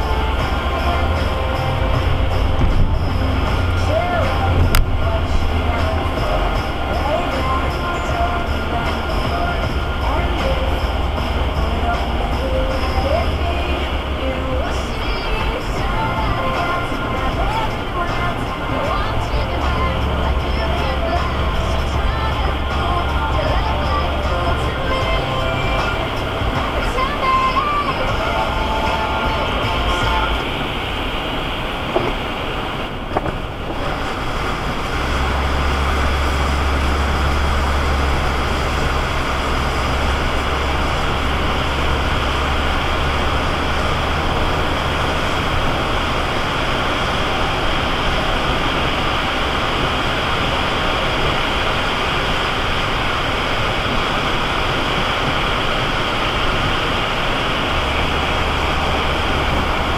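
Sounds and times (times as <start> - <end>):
low drone: 0.0 - 59.9
tyre spray and road noise: 0.0 - 59.9.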